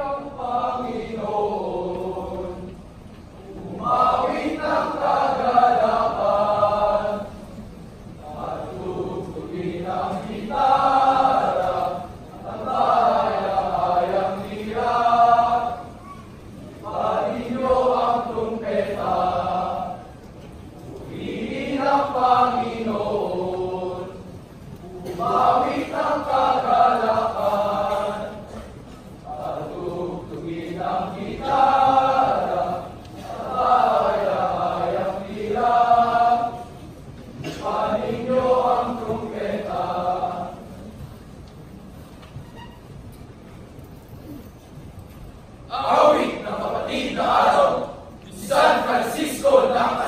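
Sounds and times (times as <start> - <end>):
young voices chanting: 3.4 - 20.2, 20.9 - 40.8, 45.7 - 50.0.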